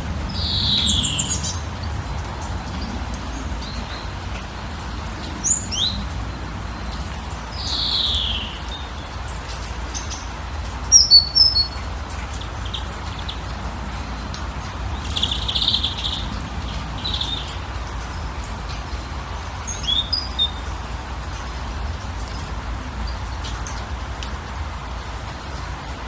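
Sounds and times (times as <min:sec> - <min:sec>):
wild birds chirping: 0:00.0 - 0:24.4.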